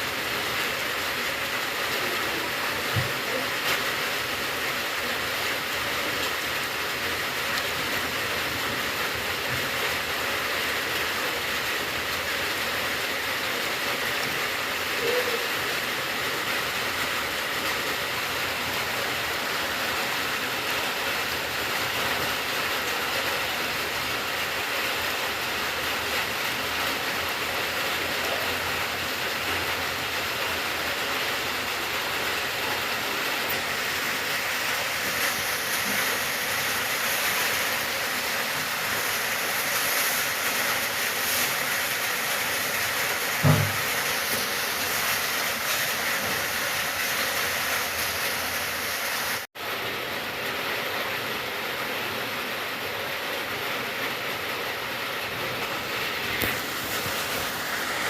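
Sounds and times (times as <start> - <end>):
rain falling steadily: 0.0 - 58.0.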